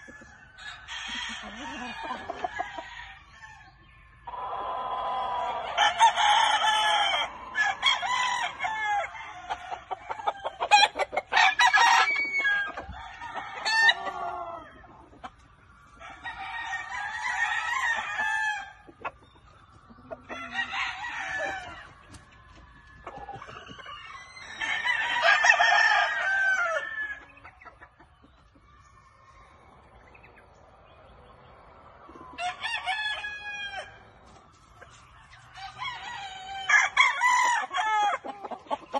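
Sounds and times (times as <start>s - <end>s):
roosters crowing: 0.0s - 30.4s, 31.3s - 38.9s.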